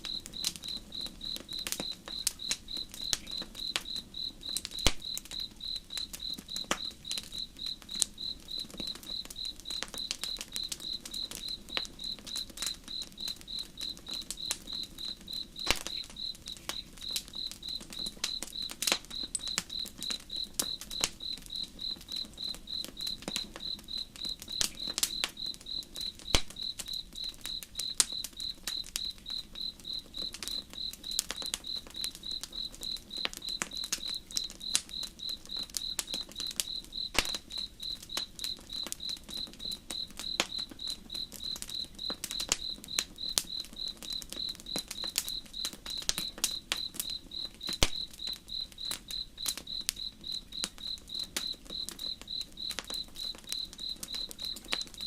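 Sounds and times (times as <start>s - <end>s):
campfire crackling: 0.0s - 55.0s
crickets chirping: 0.0s - 55.0s.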